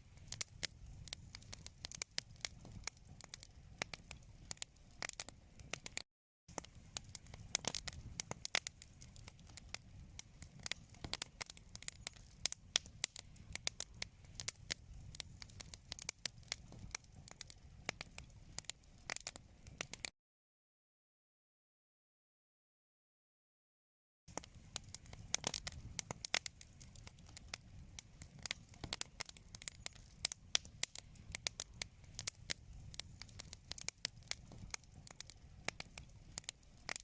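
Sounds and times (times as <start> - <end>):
wood fire crackling: 0.0 - 20.1, 24.3 - 37.0.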